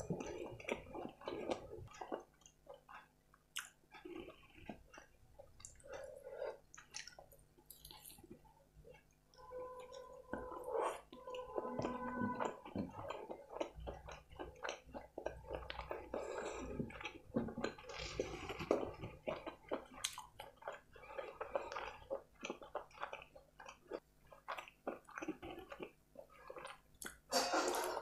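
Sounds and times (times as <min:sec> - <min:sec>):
wet chewing with clicks: 0:00.0 - 0:27.3.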